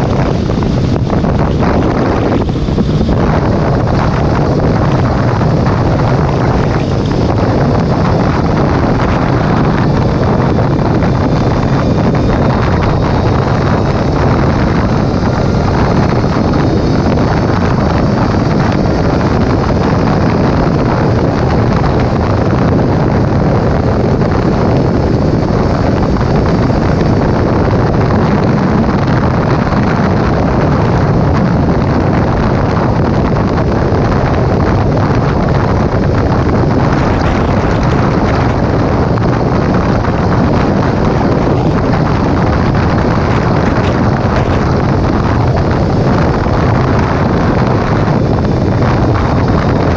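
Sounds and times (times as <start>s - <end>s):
motorcycle engine running: 0.0s - 49.9s
wind rush on microphone: 0.0s - 49.9s.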